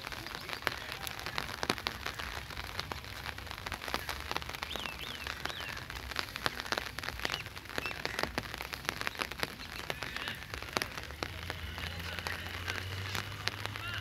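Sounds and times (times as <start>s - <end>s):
rain falling on paving: 0.0s - 14.0s.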